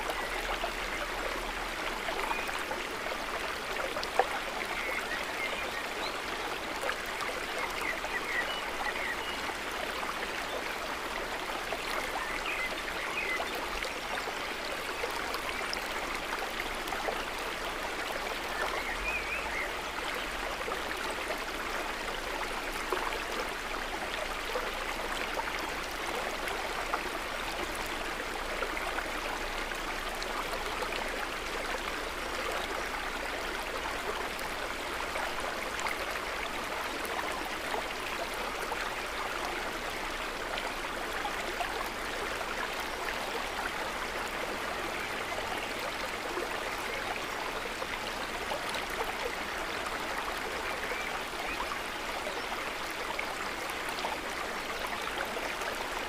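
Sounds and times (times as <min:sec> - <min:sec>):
water trickling at lake edge: 0:00.0 - 0:56.0.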